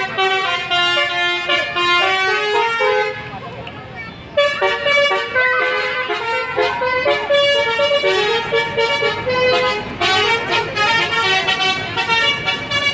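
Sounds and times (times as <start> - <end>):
musical bus horn melody: 0.0 - 3.4, 4.3 - 12.9.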